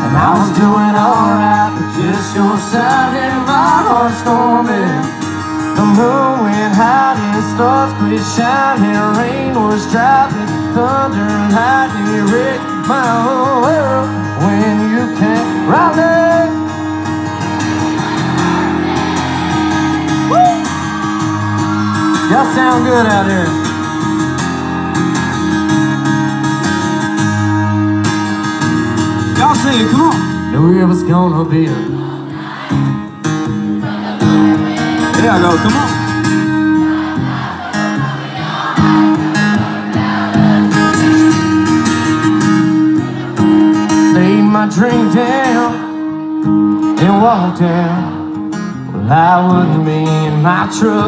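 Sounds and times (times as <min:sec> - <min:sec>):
audience singing along: 0:00.0 - 0:22.4, 0:31.3 - 0:51.0
acoustic guitar strumming: 0:00.0 - 0:51.0
country band playing: 0:00.0 - 0:51.0.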